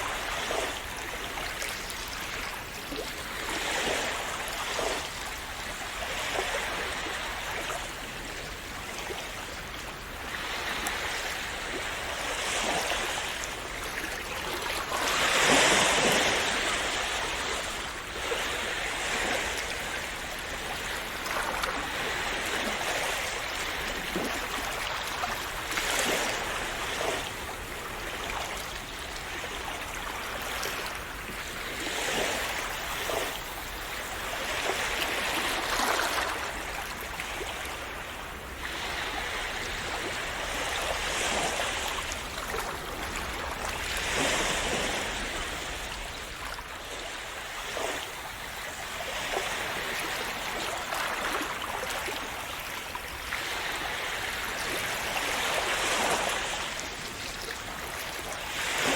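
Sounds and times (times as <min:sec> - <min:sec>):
sea waves lapping: 0:00.0 - 0:58.9.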